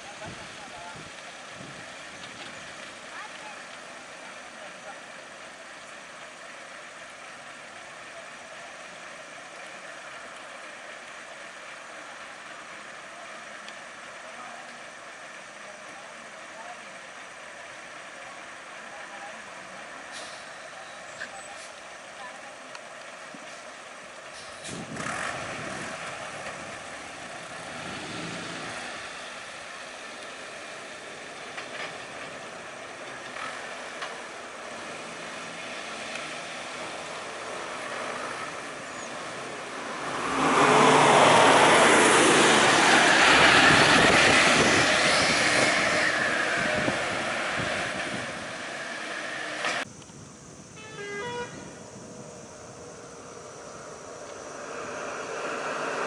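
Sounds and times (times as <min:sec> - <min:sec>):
bus and car engines idling: 0:00.0 - 0:56.0.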